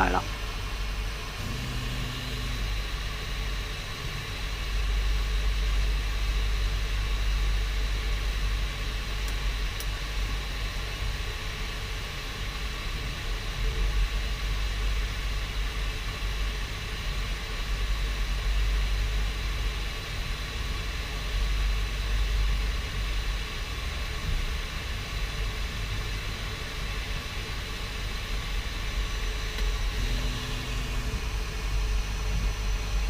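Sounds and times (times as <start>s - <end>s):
three d printer humming and rumbling: 0.0s - 33.0s.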